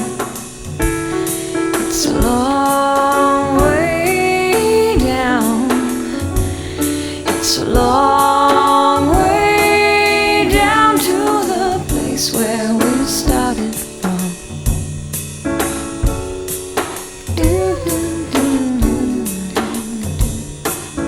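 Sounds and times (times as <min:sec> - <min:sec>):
pop song with vocals: 0:00.0 - 0:15.0, 0:15.6 - 0:21.0
steady drum beat: 0:00.0 - 0:21.0.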